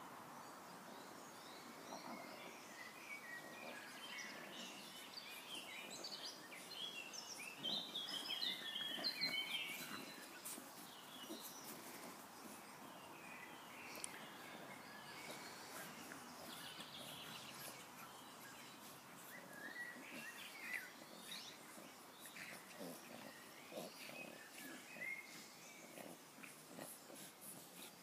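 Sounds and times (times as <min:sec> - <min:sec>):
birds chirping and singing: 0:01.4 - 0:28.0.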